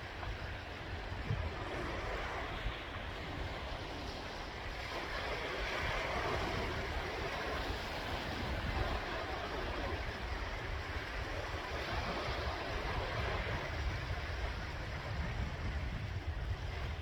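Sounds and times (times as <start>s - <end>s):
sea waves breaking: 0.0s - 17.0s
wind rumble on microphone: 0.0s - 17.0s.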